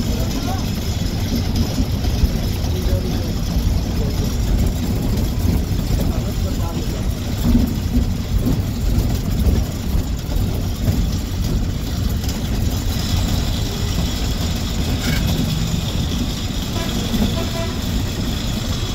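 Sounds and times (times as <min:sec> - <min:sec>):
bus engine rumbling: 0:00.0 - 0:18.9
road and traffic noise: 0:00.0 - 0:18.9.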